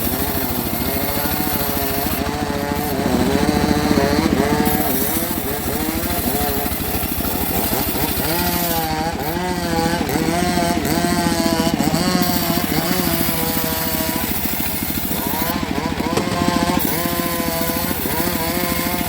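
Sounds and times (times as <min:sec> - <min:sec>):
engine saw cutting wood: 0:00.0 - 0:19.0.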